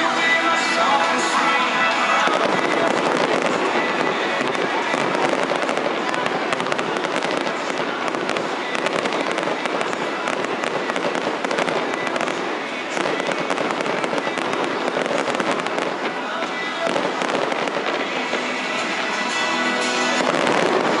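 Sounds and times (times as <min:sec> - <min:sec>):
fireworks bangs and crackle: 0:00.0 - 0:21.0.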